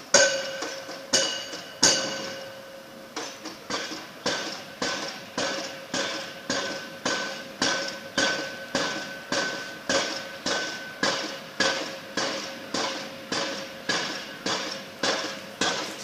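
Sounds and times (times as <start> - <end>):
pile driver hammering: 0.0 - 2.6, 3.2 - 16.0.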